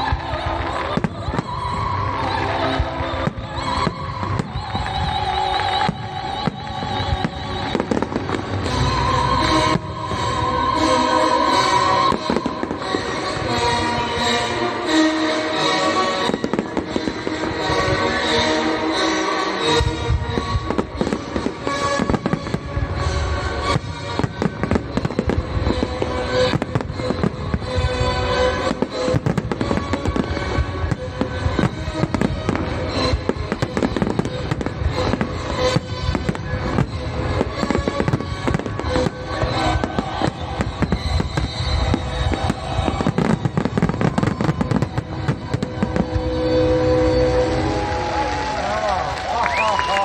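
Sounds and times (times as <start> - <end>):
fireworks bursting and crackling: 0.0 - 50.0
music: 0.0 - 50.0.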